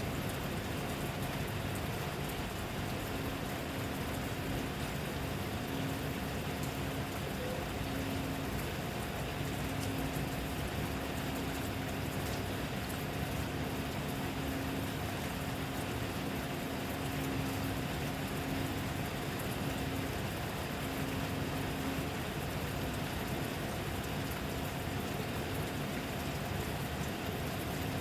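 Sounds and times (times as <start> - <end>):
low steady motor hum: 0.0 - 28.0
steady rain falling: 0.0 - 28.0.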